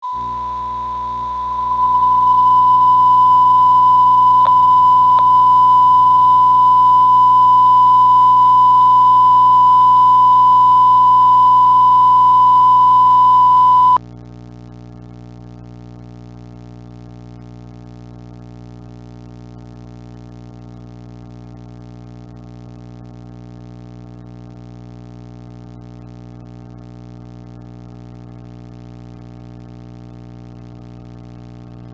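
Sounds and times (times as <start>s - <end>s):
sine-wave broadcast tone: 0.0s - 31.9s.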